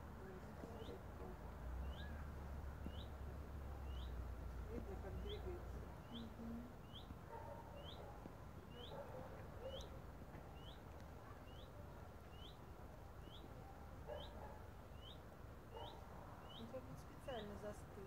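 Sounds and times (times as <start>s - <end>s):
low outdoor rumble: 0.0s - 18.0s
small bird chirping: 0.2s - 18.0s.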